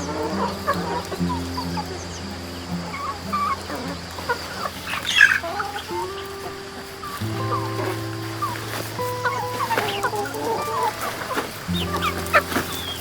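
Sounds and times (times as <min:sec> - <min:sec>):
background music: 0:00.0 - 0:13.0
chickens clucking: 0:00.0 - 0:13.0.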